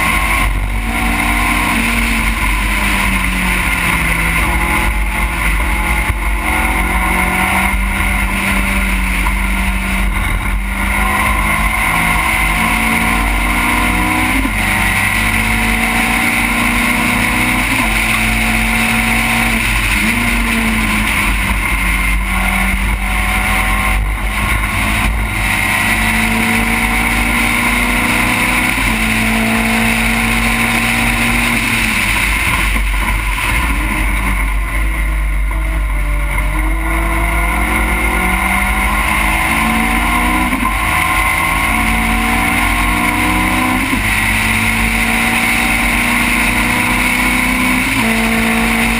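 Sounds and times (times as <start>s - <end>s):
race car engine shifting gears: 0.0s - 48.9s.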